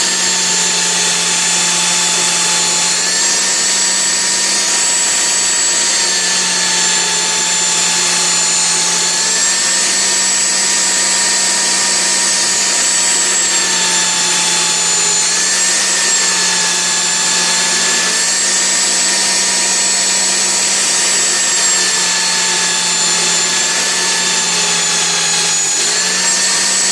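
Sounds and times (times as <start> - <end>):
belt sander whining: 0.0 - 26.9.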